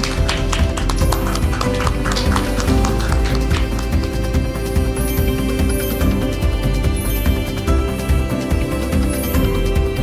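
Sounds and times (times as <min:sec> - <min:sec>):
music with percussive beat: 0:00.0 - 0:10.0.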